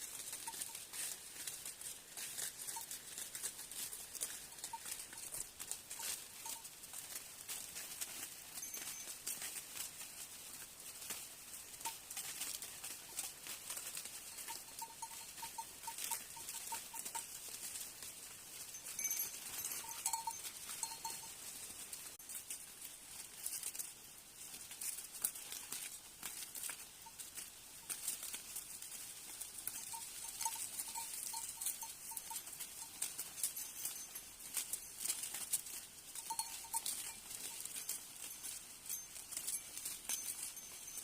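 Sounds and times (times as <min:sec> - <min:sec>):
goats moving about: 0:00.0 - 0:41.0
small bell tinkling: 0:00.1 - 0:07.0, 0:07.6 - 0:10.3, 0:11.8 - 0:22.6, 0:25.8 - 0:41.0.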